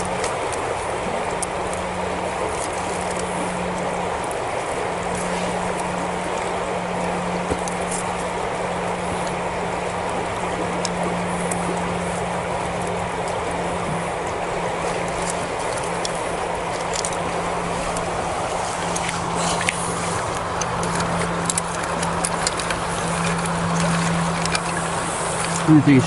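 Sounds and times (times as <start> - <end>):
low hum: 0.0 - 26.0
river rushing over stones: 0.0 - 26.0.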